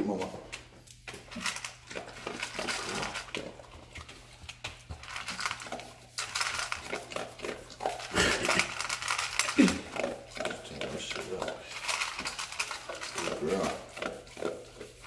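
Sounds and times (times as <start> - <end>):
dog chewing: 0.0 - 15.0.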